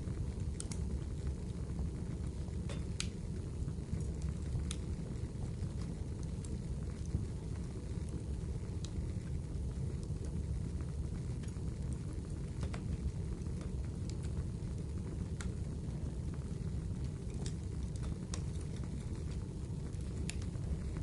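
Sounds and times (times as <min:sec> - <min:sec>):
burning wood crackling and popping: 0:00.0 - 0:21.0
low rumble of flames: 0:00.0 - 0:21.0.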